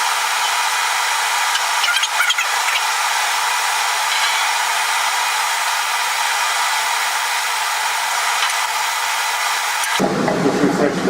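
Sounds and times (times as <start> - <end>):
forge blower rushing air: 0.0 - 11.0.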